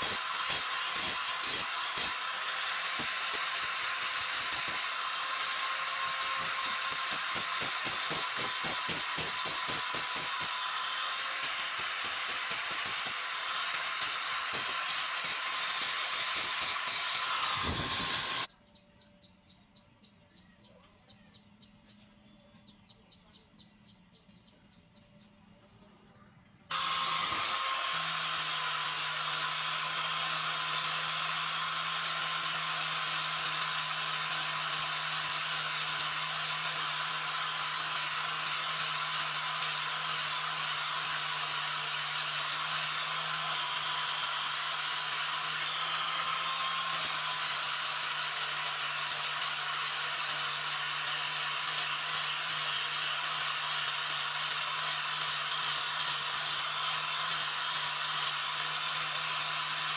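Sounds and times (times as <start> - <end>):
angle grinder grinding metal: 0.0 - 18.5, 26.7 - 59.9.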